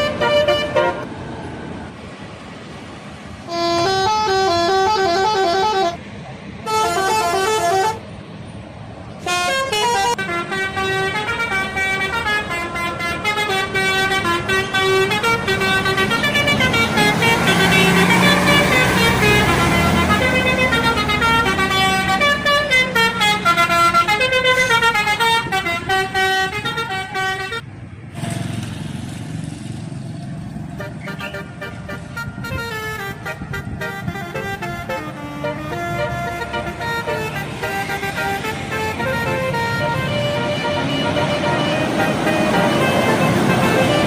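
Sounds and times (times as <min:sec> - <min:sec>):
musical air horn: 0:00.0 - 0:01.1, 0:03.4 - 0:06.0, 0:06.6 - 0:08.0, 0:09.2 - 0:27.6, 0:30.8 - 0:44.0
bus engine: 0:00.0 - 0:44.0
road noise: 0:00.0 - 0:44.0.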